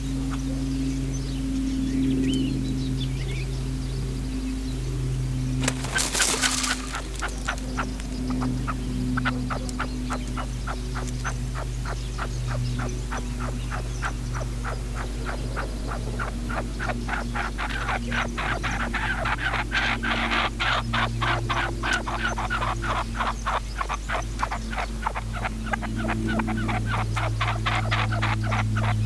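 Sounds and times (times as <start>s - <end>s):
low steady hum: 0.0s - 29.0s
partridge clicking calls: 5.6s - 29.0s.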